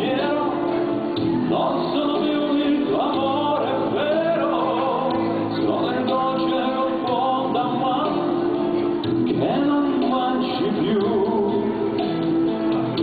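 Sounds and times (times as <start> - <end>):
musical accompaniment: 0.0 - 13.0.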